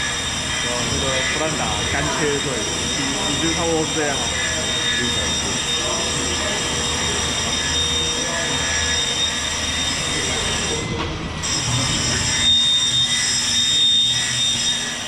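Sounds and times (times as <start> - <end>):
grinder whining and grinding: 0.0 - 15.0.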